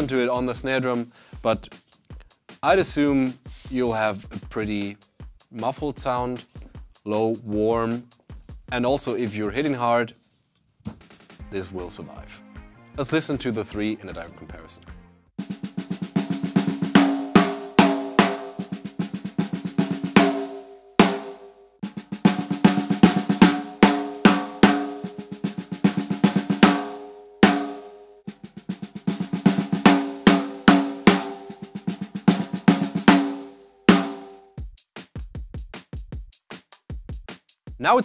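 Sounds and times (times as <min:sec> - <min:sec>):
snare drum played with sticks: 0:01.5 - 0:09.3, 0:15.4 - 0:38.0.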